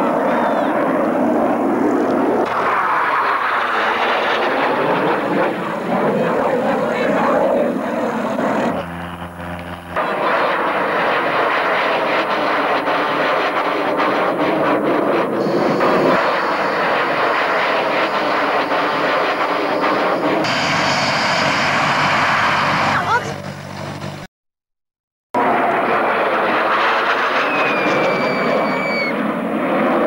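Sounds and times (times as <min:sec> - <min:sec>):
jet engines roaring overhead: 0:00.0 - 0:24.2, 0:25.4 - 0:30.0
propeller engine running: 0:00.0 - 0:24.3, 0:25.4 - 0:30.0.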